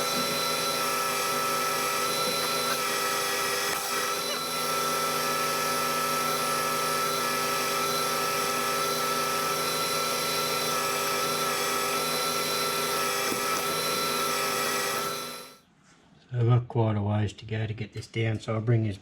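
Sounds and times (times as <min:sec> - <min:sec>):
metal lathe humming: 0:00.0 - 0:15.6.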